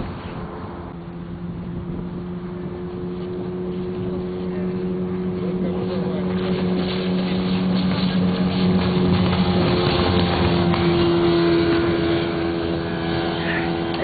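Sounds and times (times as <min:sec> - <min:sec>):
wind: 0:00.0 - 0:14.0
outboard motor running: 0:01.0 - 0:14.0.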